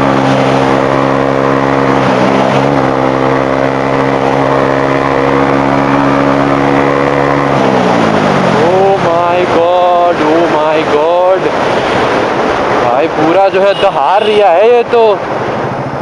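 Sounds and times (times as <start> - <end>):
motorcycle engine at high revs: 0.0 - 15.4.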